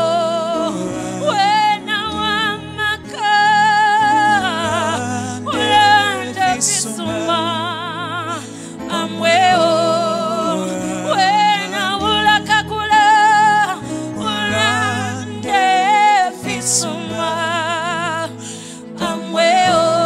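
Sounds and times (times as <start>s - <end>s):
keyboard chords: 0.0s - 20.0s
person singing with vibrato: 0.0s - 20.0s.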